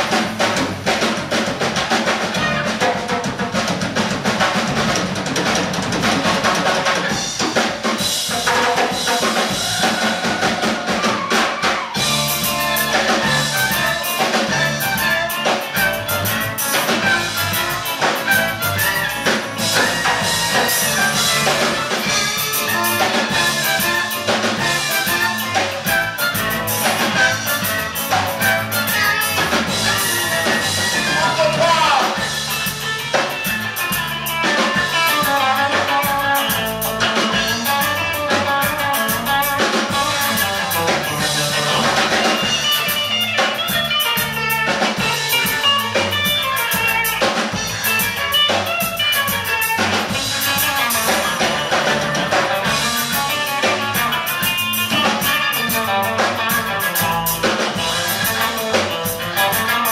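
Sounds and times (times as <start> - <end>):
drum kit: 0.0 - 59.9
electric guitar: 0.0 - 59.9
saxophone: 1.9 - 3.9, 6.1 - 59.9.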